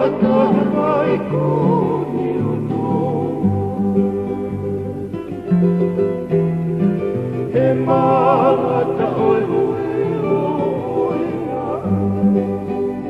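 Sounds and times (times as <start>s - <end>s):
person singing with vibrato: 0.0s - 5.8s, 7.4s - 13.0s
instrumental held chords: 0.0s - 13.0s.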